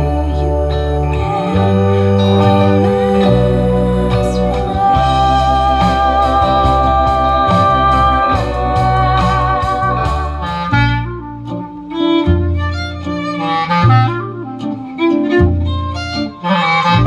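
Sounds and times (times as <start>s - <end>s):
deep bass line: 0.0s - 17.0s
organ-like keyboard chords: 0.0s - 17.0s.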